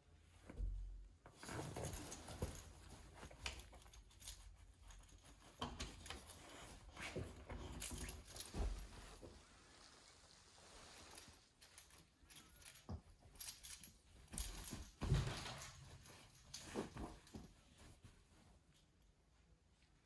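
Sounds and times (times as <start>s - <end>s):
puppy rustling and scuffling: 0.4s - 11.9s, 12.9s - 19.5s.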